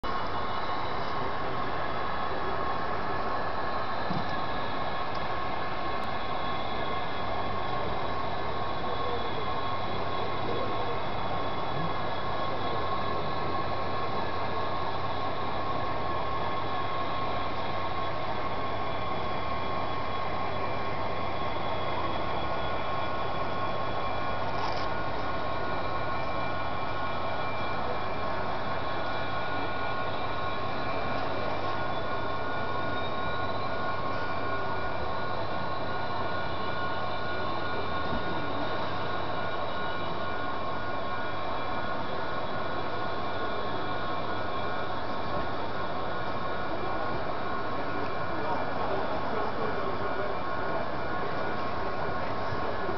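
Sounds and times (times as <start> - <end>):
diesel engine sound through small speaker: 0.0 - 52.9.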